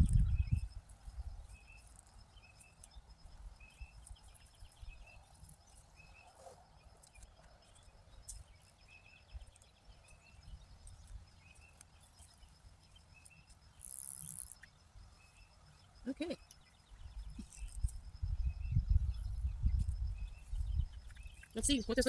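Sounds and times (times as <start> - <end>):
bird chirping: 0.0 - 22.0
insect ticking: 0.0 - 22.0.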